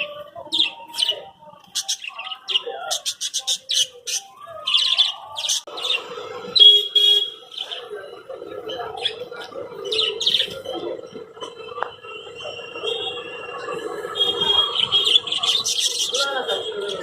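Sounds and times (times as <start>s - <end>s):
parakeets chirping: 0.0s - 17.0s.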